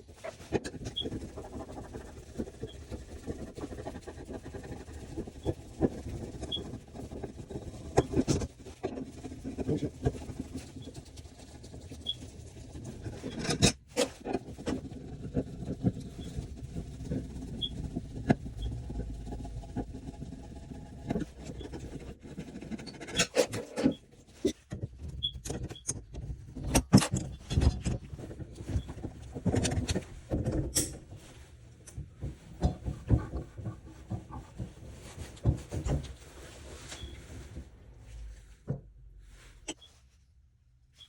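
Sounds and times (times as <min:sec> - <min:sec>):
clicks knocks and scraping: 0:00.0 - 0:38.9.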